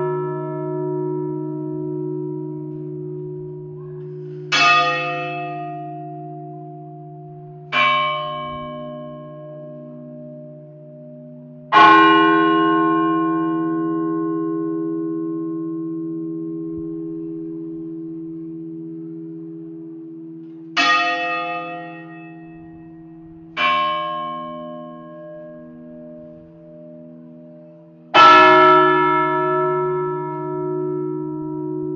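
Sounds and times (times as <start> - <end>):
large church bell tolling: 0.0 - 31.9.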